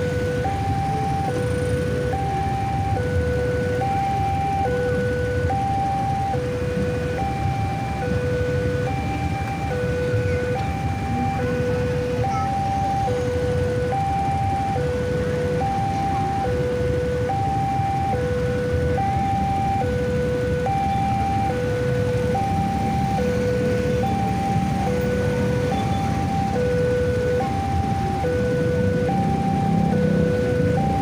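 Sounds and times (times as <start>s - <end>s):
level-crossing two-tone alarm: 0.0s - 31.0s
low rumble of traffic: 0.0s - 31.0s.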